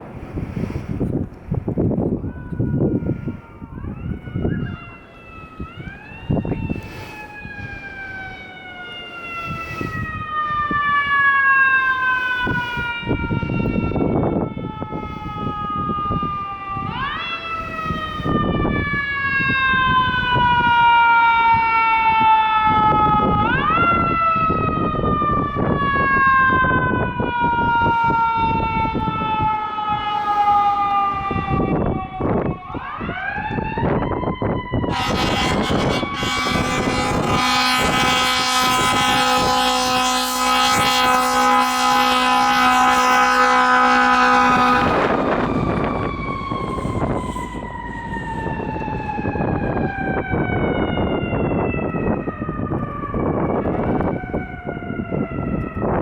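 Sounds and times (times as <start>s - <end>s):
fire truck siren wailing: 0.0s - 56.0s.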